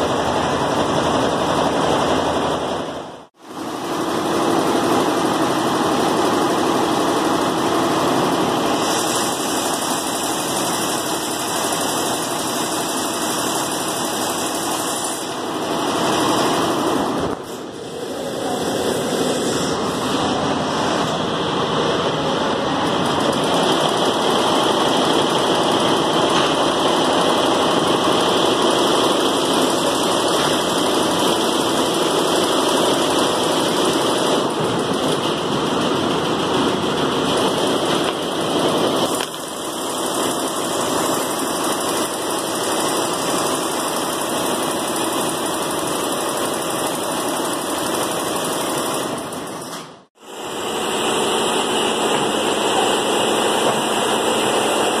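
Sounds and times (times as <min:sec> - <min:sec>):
loud machine running: 0:00.0 - 0:55.0.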